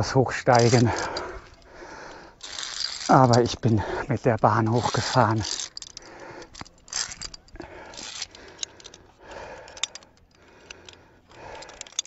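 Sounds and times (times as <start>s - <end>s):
carabiners clinking on steel cable: 0.0s - 12.0s
sharp metallic clicks: 0.4s - 12.0s.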